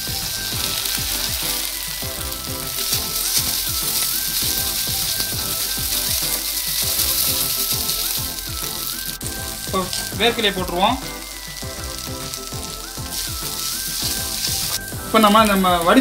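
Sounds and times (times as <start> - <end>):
background music: 0.0 - 16.0
vegetables sizzling in hot oil: 0.0 - 16.0.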